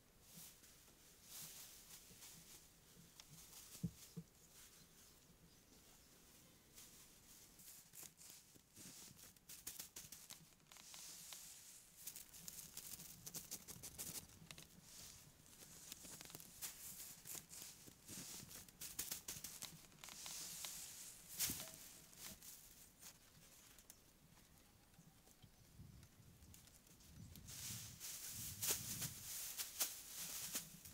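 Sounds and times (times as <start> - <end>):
dry grass thatch rustling: 0.2 - 5.1, 6.7 - 23.9, 26.5 - 30.9.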